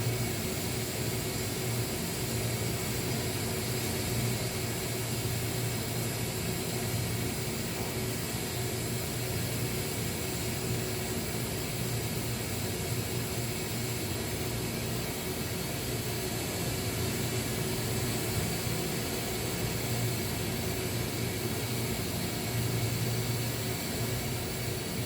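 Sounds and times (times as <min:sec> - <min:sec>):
welding hiss: 0:00.0 - 0:25.0.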